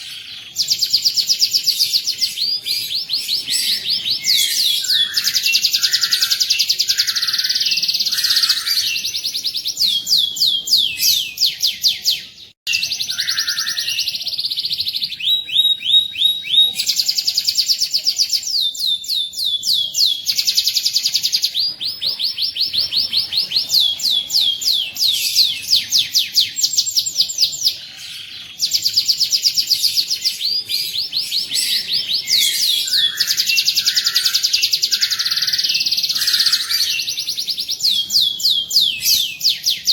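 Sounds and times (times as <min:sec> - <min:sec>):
canary singing in trills: 0:00.0 - 0:39.9.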